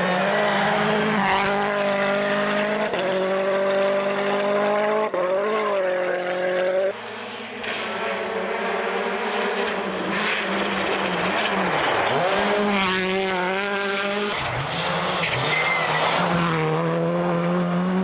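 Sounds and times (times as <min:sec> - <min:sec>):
rally car approaching: 0:00.0 - 0:18.0
rally car engines running hard: 0:00.0 - 0:18.0.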